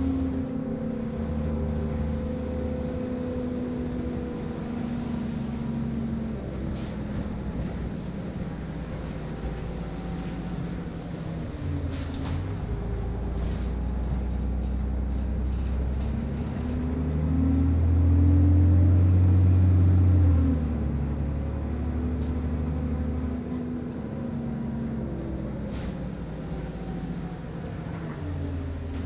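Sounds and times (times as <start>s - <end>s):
bus engine drone: 0.0s - 29.0s.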